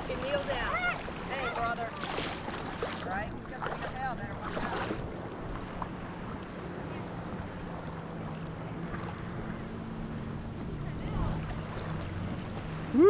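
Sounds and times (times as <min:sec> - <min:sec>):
shallow surf: 0:00.0 - 0:13.0
wind: 0:00.0 - 0:13.0.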